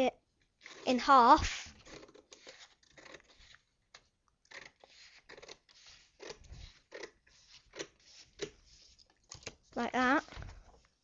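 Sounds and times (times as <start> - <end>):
paper rustling: 0.6 - 3.7, 4.5 - 11.0.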